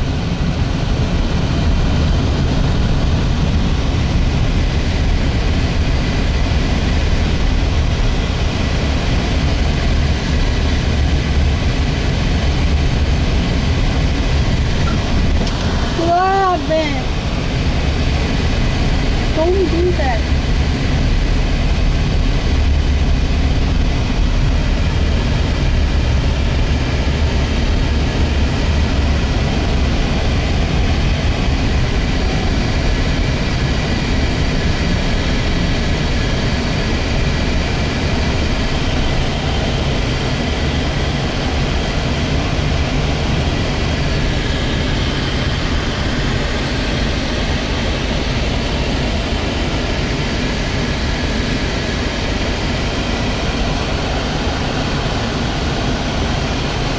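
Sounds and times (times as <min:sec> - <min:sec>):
car road and engine rumble: 0:00.0 - 0:56.9.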